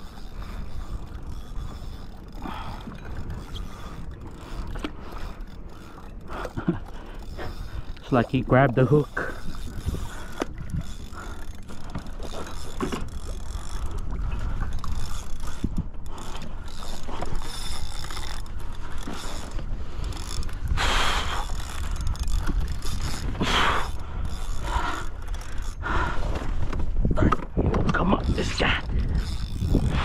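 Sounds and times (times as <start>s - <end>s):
fishing reel ratcheting: 0.0s - 26.2s, 28.0s - 30.0s
wind and water rumble: 0.0s - 30.0s.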